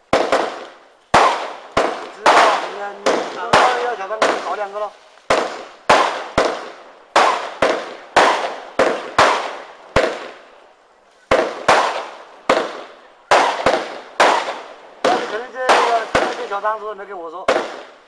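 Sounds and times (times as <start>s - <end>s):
firework bangs: 0.0s - 18.0s.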